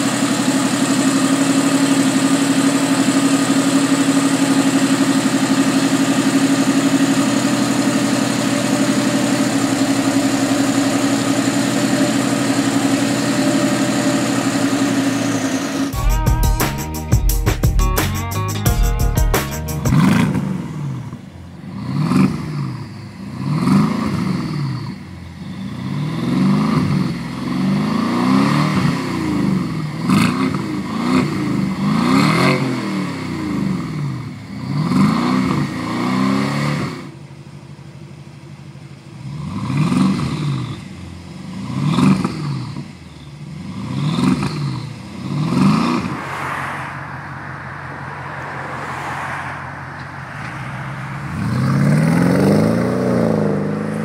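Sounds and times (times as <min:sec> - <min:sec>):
car engine revving: 0:00.0 - 0:16.0, 0:19.8 - 0:37.2, 0:39.2 - 0:54.0.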